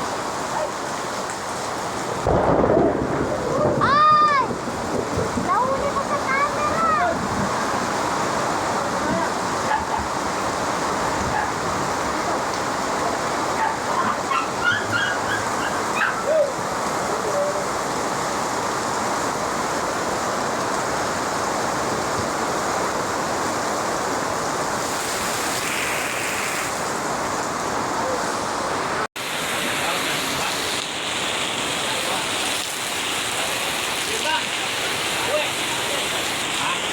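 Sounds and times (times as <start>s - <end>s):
heavy rain hissing: 0.0s - 36.9s.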